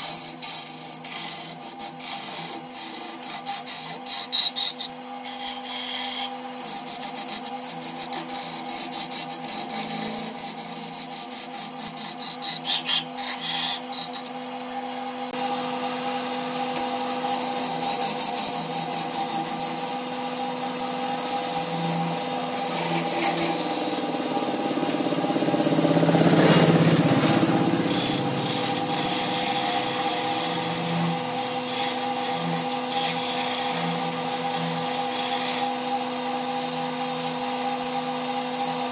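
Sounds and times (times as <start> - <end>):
gouge scraping spinning wood: 0.0 - 38.9
lathe motor hum: 0.0 - 38.9.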